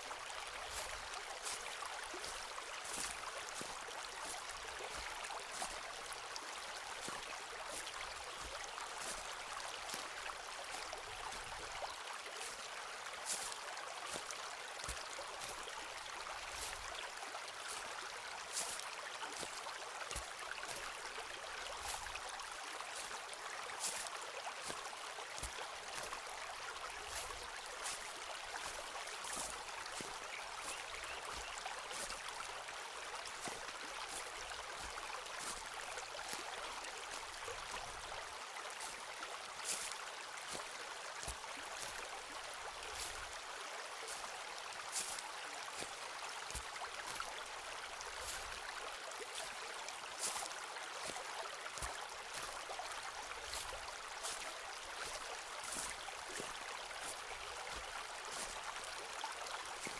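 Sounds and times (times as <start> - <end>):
footsteps on forest floor: 0.6 - 6.2, 7.0 - 11.7, 13.2 - 15.7, 16.5 - 16.9, 17.6 - 21.0, 21.8 - 22.3, 22.9 - 32.5, 33.2 - 43.4, 44.0 - 47.3, 48.0 - 51.2, 51.8 - 58.9.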